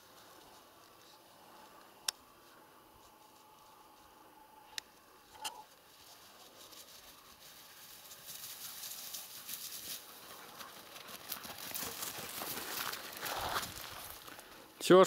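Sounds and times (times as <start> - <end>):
running footsteps in dry grass: 0.0 - 14.8.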